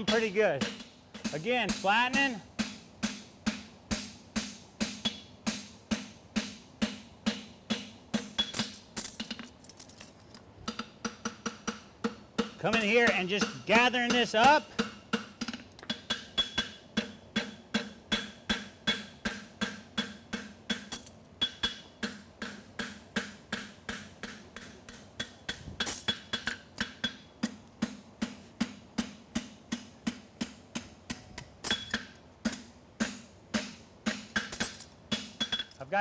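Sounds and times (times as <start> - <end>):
hammer striking metal on anvil: 0.0 - 9.4, 10.7 - 35.8.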